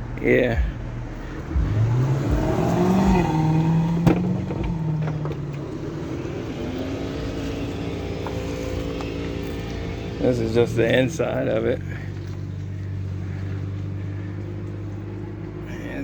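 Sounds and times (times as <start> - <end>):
vehicle engine revving and humming: 0.0 - 16.0.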